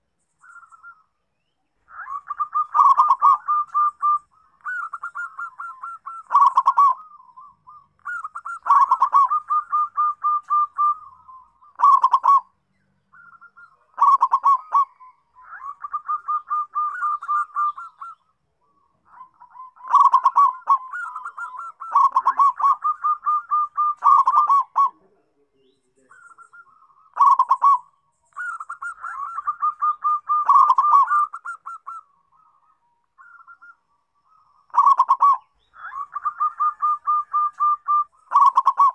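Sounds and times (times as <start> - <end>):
dove cooing: 0.0 - 1.1, 1.8 - 38.9.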